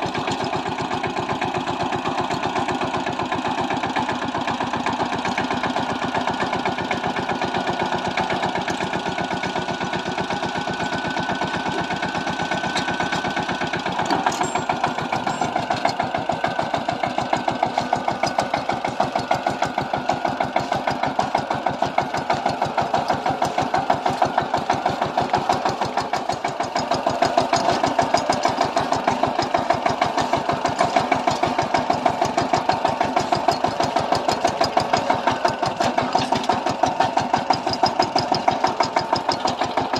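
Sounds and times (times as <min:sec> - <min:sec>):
diesel tiller engine chugging: 0:00.0 - 0:39.9.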